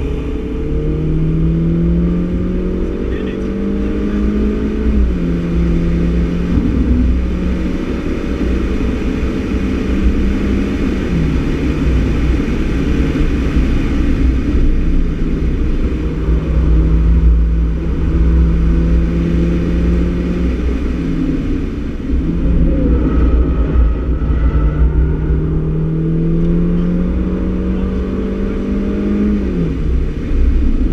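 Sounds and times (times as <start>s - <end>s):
car engine at high revs: 0.0s - 30.9s
wind and tyre noise: 0.0s - 30.9s.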